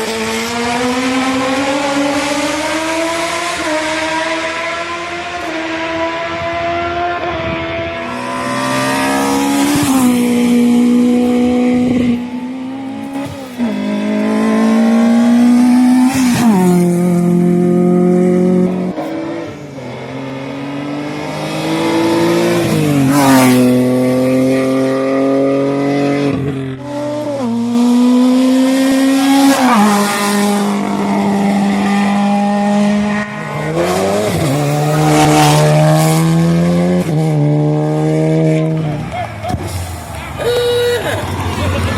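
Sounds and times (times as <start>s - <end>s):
race car engine accelerating: 0.0s - 40.4s.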